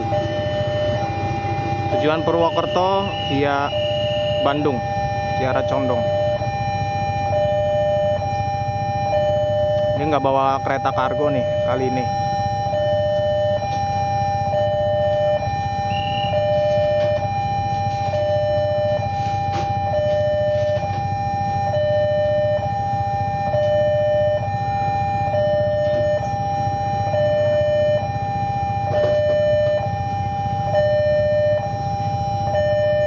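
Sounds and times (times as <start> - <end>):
departing train rumble: 0.0 - 28.1
level crossing two-tone alarm: 0.0 - 33.0.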